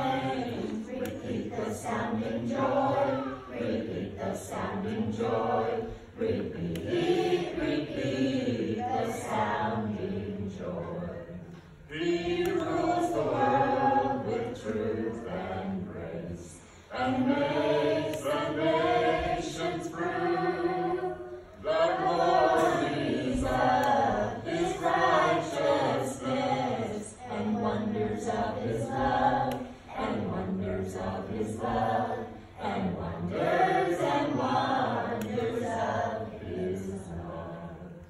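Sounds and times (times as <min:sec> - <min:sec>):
children's choir singing: 0:00.0 - 0:38.0.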